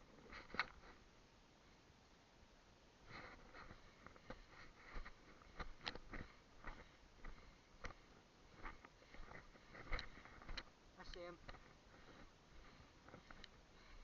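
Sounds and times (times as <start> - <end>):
faint crackling and rustling: 0.0 - 2.2, 2.9 - 14.0.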